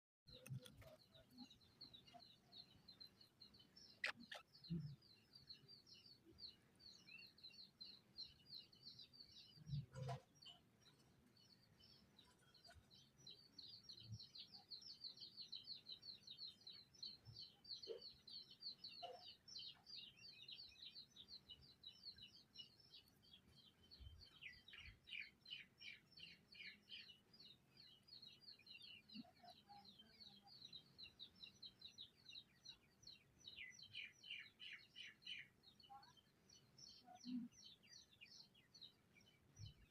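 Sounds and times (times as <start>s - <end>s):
birds chirping faintly: 0.3s - 39.9s.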